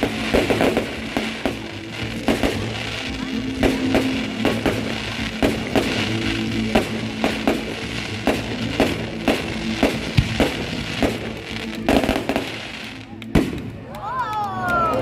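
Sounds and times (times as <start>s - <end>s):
music with drum beat: 0.0s - 13.7s
firework bangs: 0.0s - 13.9s.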